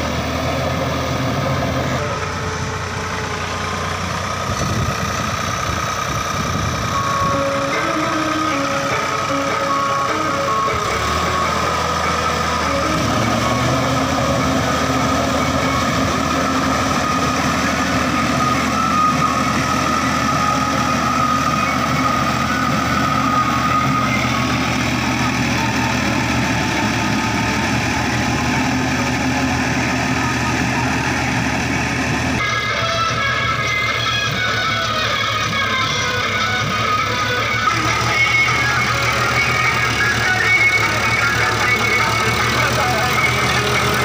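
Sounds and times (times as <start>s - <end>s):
tractor diesel engine droning: 0.0s - 44.0s.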